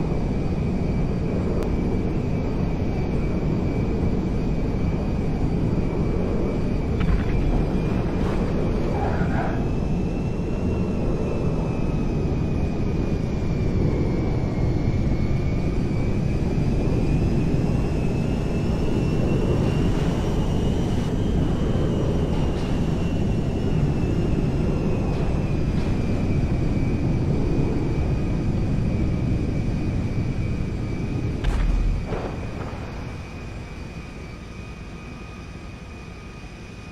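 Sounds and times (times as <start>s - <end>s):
airplane engine with high whine: 0.0s - 36.9s.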